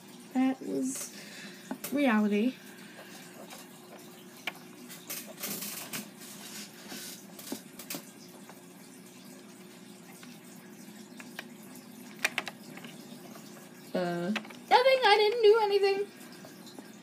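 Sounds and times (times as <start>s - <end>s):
low background hiss and hum: 0.0s - 17.0s.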